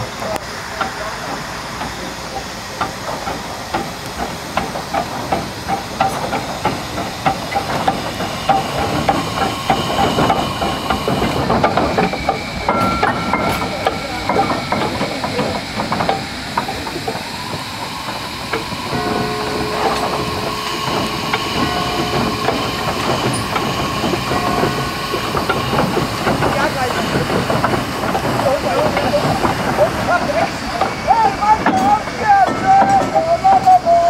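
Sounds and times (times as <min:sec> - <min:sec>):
steam hissing: 0:00.0 - 0:34.0
steam locomotive exhaust beats: 0:00.0 - 0:34.0.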